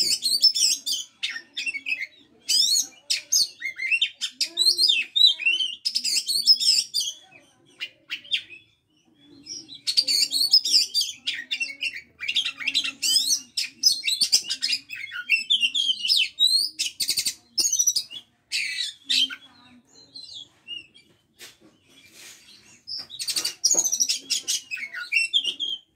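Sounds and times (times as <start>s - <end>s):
magpie-robin singing: 0.0s - 25.9s.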